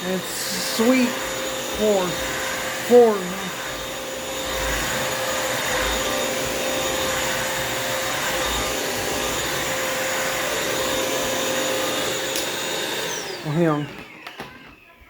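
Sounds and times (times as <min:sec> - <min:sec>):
vacuum mop motor whining: 0:00.0 - 0:15.0.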